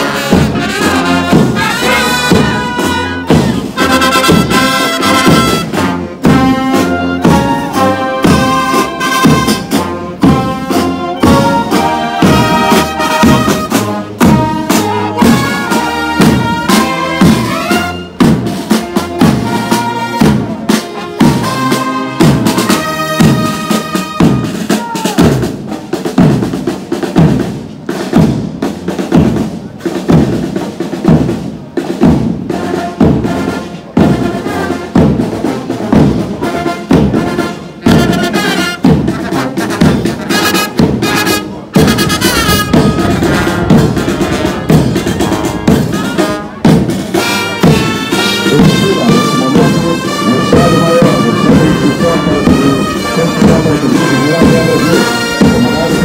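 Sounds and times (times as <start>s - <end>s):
brass band playing: 0.0s - 56.0s
field drums beating: 0.0s - 56.0s.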